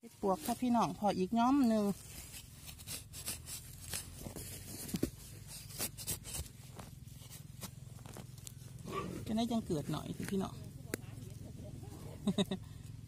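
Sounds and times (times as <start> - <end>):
dry leaves and twigs crackling: 0.0 - 13.0.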